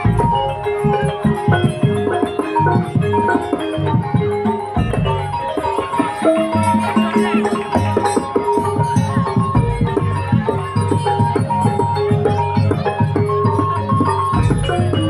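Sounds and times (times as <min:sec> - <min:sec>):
gamelan metal keys ringing: 0:00.0 - 0:15.0.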